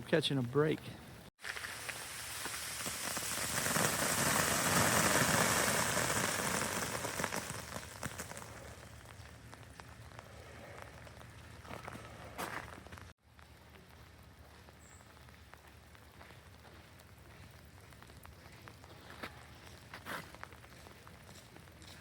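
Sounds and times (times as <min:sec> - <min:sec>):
freezing rain pattering on ice: 0:01.4 - 0:22.0.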